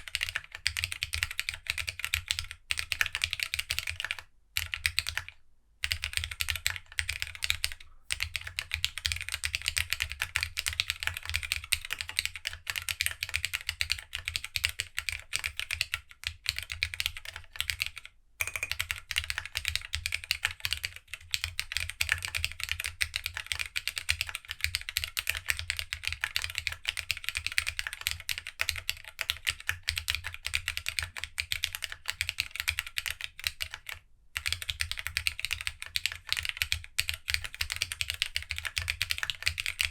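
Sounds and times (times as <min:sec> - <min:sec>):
fast mechanical keyboard typing: 0:00.1 - 0:39.9.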